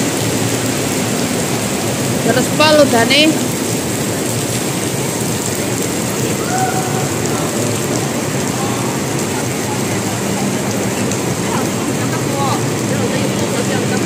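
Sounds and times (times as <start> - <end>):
heavy rain on road: 0.0 - 14.0.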